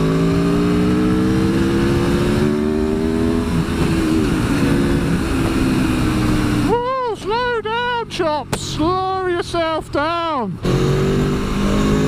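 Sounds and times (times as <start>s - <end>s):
motorcycle engine accelerating: 0.0s - 9.2s, 10.5s - 12.0s.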